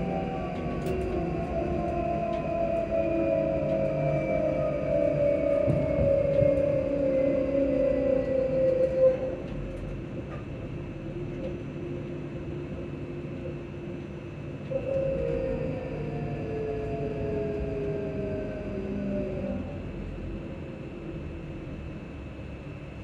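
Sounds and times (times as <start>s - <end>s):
train motors whining: 0.0s - 22.2s
low rumble of running train: 0.0s - 23.0s.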